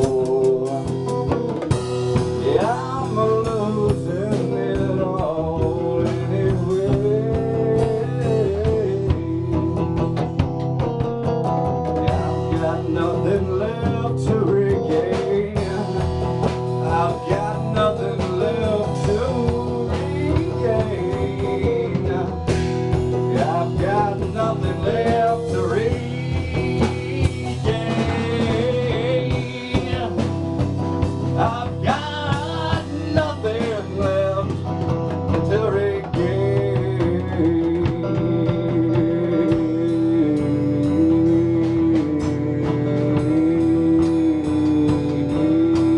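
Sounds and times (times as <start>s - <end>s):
electric guitar chords: 0.0s - 45.9s
man singing: 0.0s - 45.9s.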